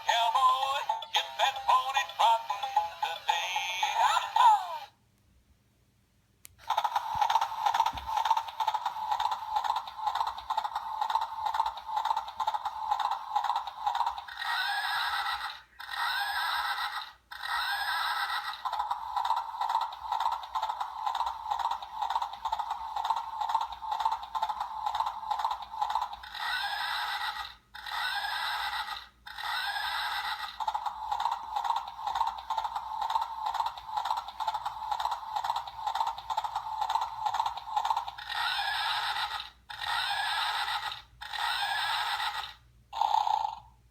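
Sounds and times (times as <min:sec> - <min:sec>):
toy motor and gears rattling: 0:00.0 - 0:04.9, 0:06.6 - 0:43.7.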